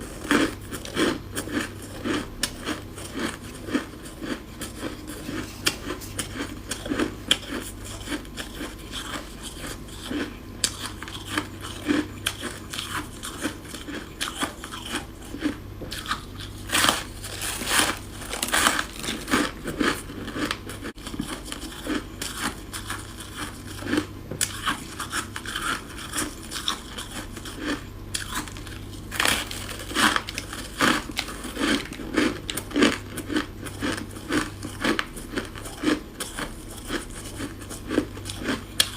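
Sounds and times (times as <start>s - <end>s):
crunching frost while chewing: 0.0s - 38.9s.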